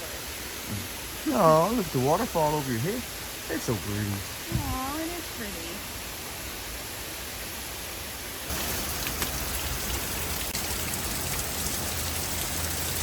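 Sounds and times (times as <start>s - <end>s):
waterfall splashing: 0.0s - 13.0s.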